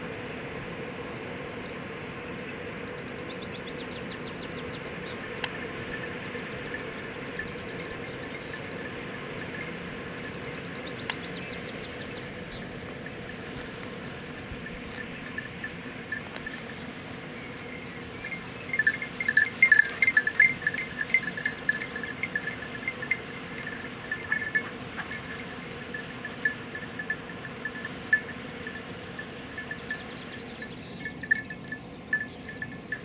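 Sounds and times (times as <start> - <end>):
small bells ringing on dog collars: 5.2 - 33.0.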